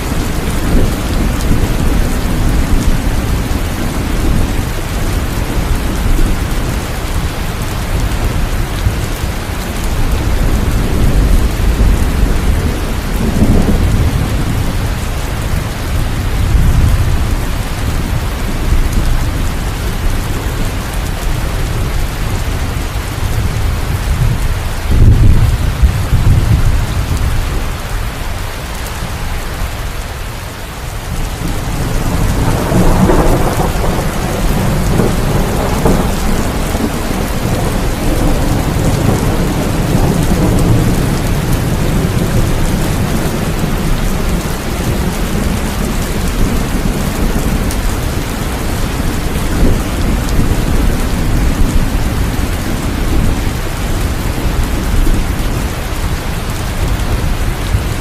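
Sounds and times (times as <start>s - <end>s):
low rolls of thunder: 0.0s - 27.7s, 31.1s - 58.0s
steady rain: 0.0s - 58.0s.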